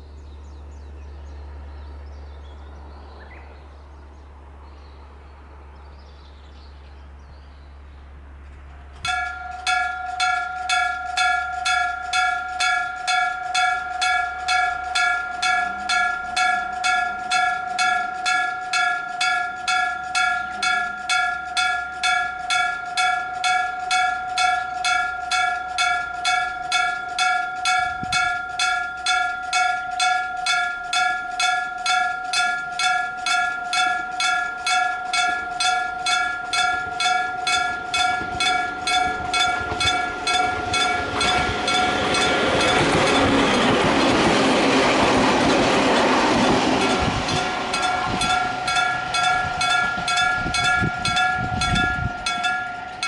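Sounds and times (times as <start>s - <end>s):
level crossing warning bell: 9.0s - 53.0s.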